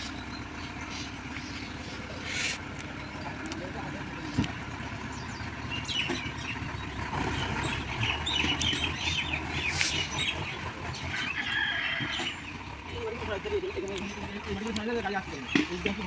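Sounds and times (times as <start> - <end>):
birds chirping: 0.0 - 16.0
heavy machinery diesel engine: 0.0 - 16.0.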